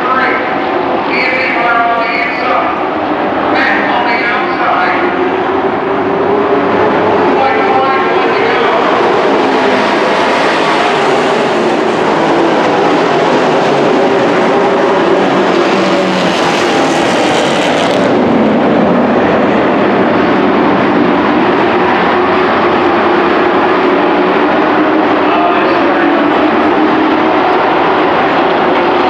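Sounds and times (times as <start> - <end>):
racing truck engines roaring: 0.0 - 29.0.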